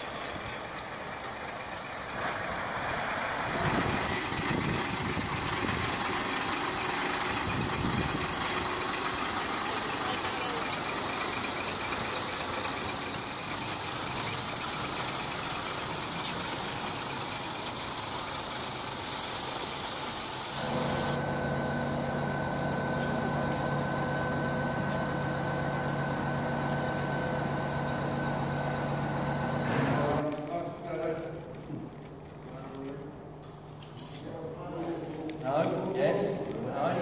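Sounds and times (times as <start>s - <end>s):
diesel engine running: 0.0s - 30.3s.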